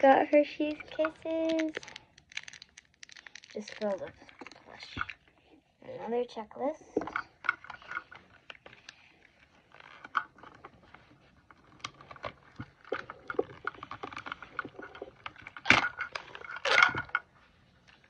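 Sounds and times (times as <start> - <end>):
wrapper crinkling and rustling: 0.0 - 5.4, 7.4 - 18.0
small clicks and crackles: 0.0 - 18.0.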